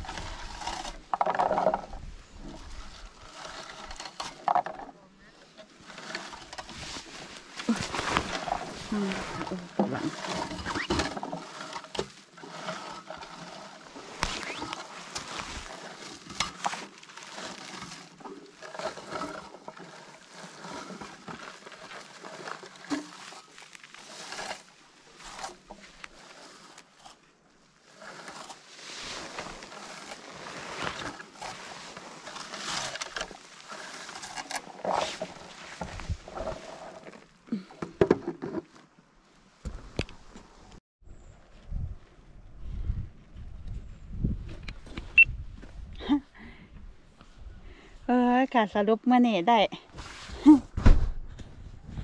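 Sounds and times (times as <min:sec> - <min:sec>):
rustling of shrubs and clothing: 0:00.0 - 0:52.0.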